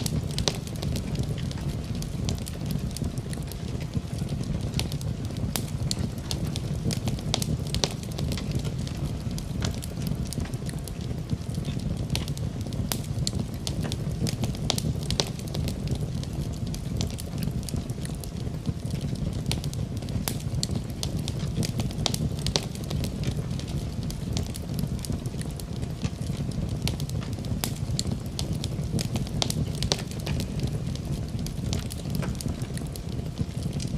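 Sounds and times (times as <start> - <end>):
fire crackling and popping: 0.0 - 33.9
fire rumbling: 0.0 - 33.9.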